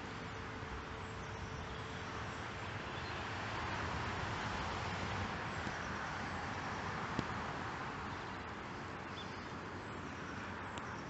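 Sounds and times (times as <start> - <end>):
rushing outdoor ambience: 0.0 - 11.0.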